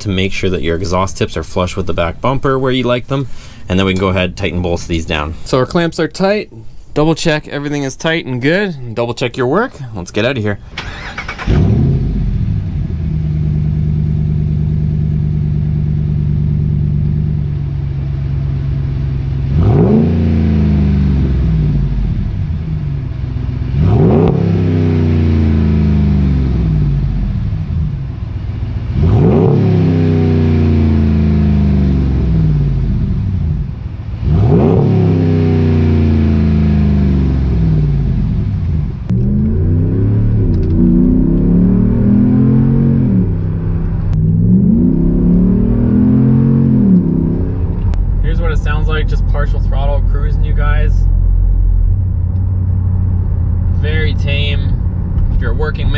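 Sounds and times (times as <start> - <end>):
truck engine revving: 10.6 - 55.9
truck accelerating from inside cab: 10.7 - 55.9.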